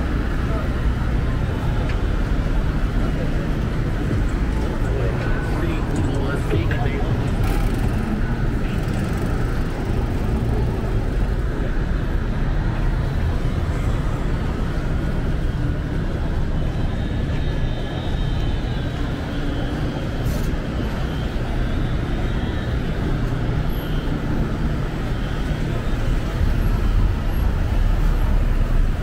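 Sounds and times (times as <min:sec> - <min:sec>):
street traffic rumble: 0:00.0 - 0:29.0.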